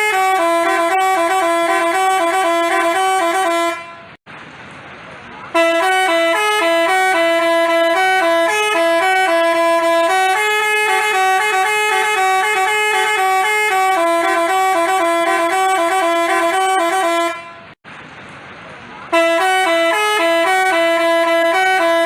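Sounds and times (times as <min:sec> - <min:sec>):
bus horn playing melody: 0:00.0 - 0:04.2, 0:05.5 - 0:17.8, 0:19.1 - 0:22.0.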